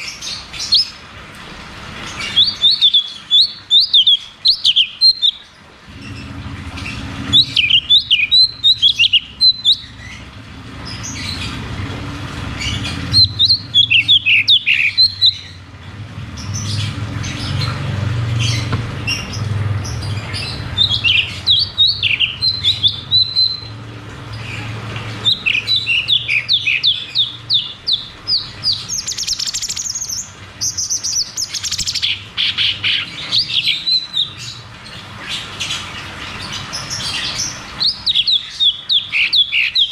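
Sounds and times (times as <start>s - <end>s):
songbird chirps and trills: 2.0s - 11.6s, 12.5s - 39.9s.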